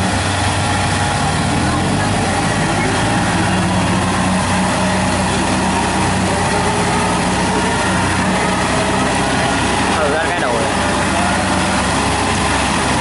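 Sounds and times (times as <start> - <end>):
tractor diesel engine straining: 0.0 - 13.0.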